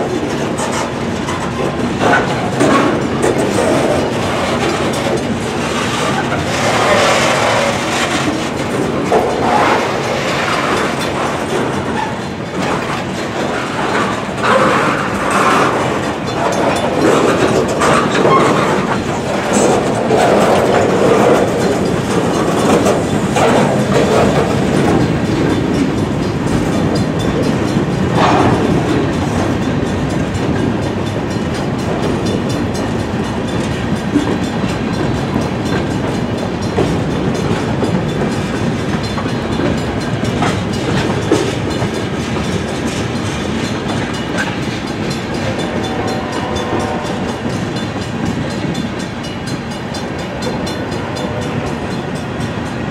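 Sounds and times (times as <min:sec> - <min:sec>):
train wheels rumbling on rails: 0:00.0 - 0:52.9
wheels clacking over rail joints: 0:00.0 - 0:52.9.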